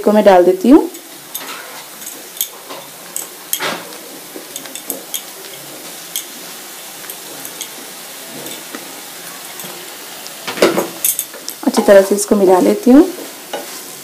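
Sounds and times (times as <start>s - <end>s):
frying sizzle: 0.0s - 14.0s.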